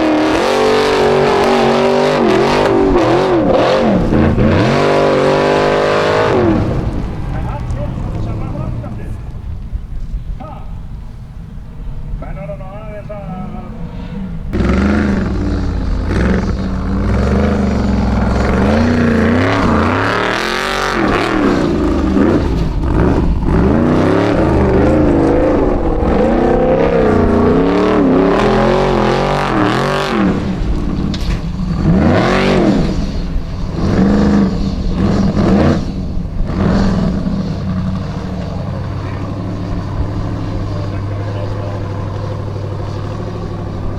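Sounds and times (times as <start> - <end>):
buggy engine revving hard: 0.0 - 9.8, 13.4 - 43.9.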